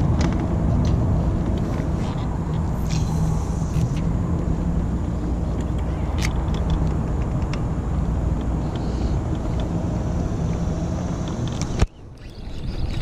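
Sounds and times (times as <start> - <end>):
wind rumble: 0.0 - 13.0.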